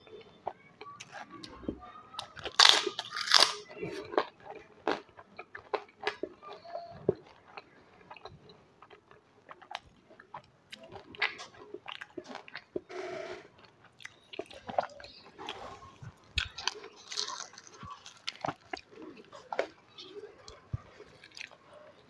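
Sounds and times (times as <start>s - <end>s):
chewing crunchy food: 0.0s - 22.0s.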